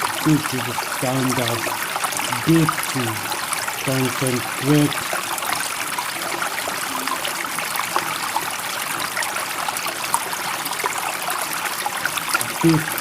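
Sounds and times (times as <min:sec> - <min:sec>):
running water burbling: 0:00.0 - 0:13.0.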